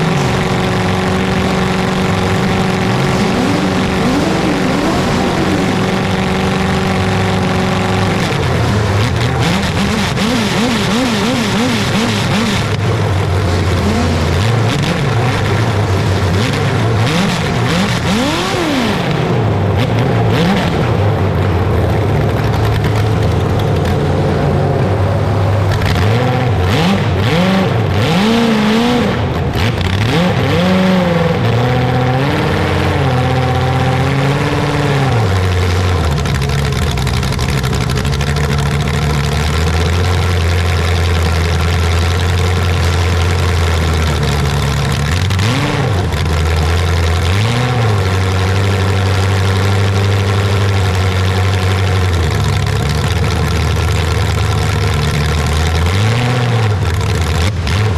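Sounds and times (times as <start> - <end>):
large engine revving and idling: 0.0 - 57.9.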